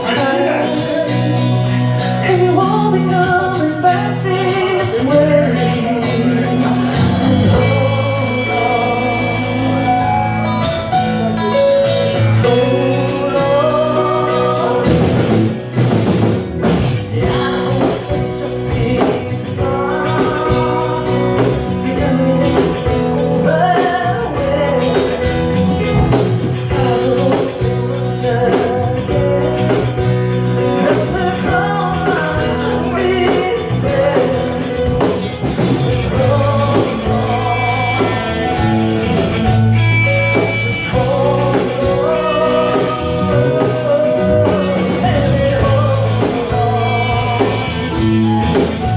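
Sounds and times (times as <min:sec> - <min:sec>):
rock band playing: 0:00.0 - 0:48.9.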